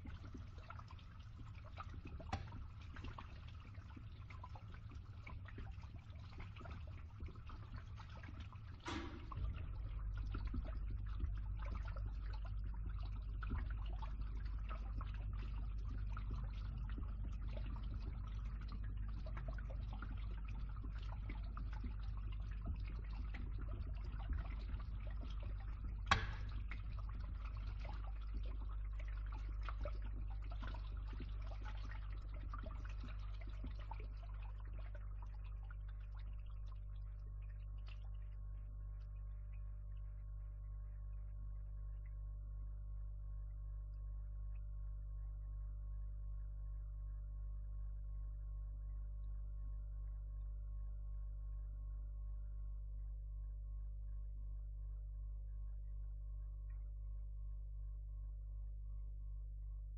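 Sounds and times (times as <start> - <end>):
water draining through a pipe: 0.0 - 51.3, 56.5 - 57.4
pump humming: 0.0 - 59.9.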